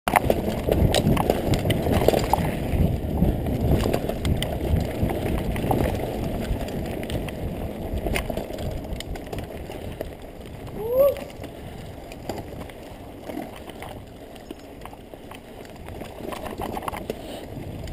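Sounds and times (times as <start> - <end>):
bike knocking and rattling: 0.1 - 17.9
bike tyres rumbling on dirt: 0.1 - 17.9.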